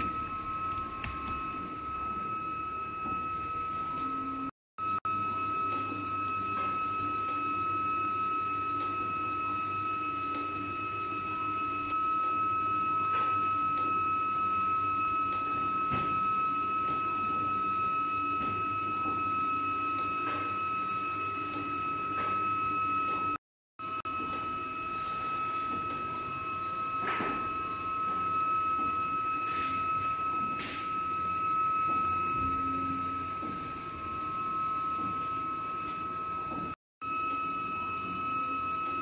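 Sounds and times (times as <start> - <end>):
printer high whine: 0.0 - 39.0.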